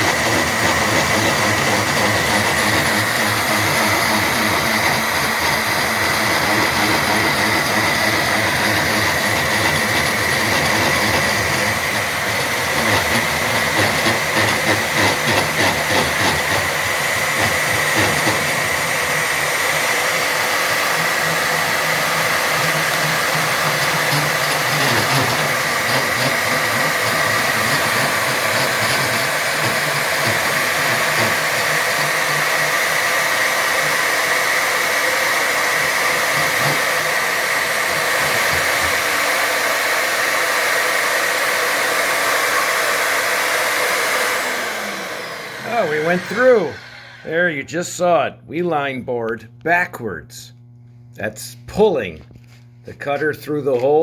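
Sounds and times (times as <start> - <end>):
drill press motor whining: 0.0 - 47.6.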